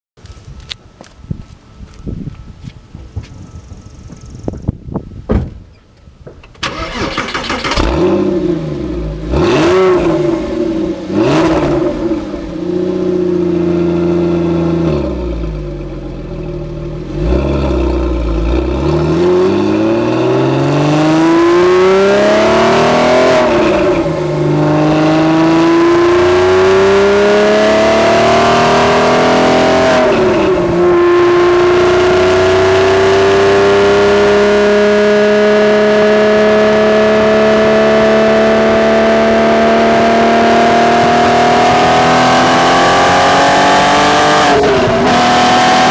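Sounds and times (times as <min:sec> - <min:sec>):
car accelerating and shifting: 0:06.6 - 0:45.9
car engine revving: 0:06.6 - 0:45.9.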